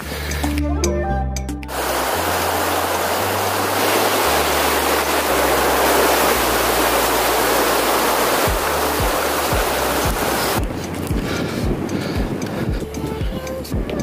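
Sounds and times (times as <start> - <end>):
stream rushing over rocks: 1.7 - 13.1.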